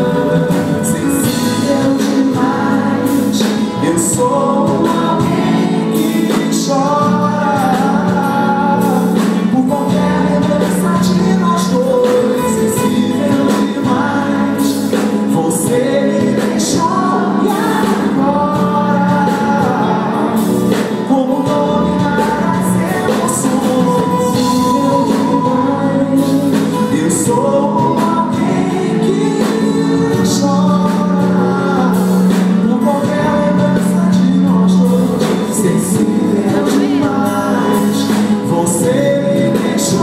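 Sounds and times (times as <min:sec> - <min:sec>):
live band playing pop ballad: 0:00.0 - 0:40.0
person singing: 0:00.0 - 0:40.0.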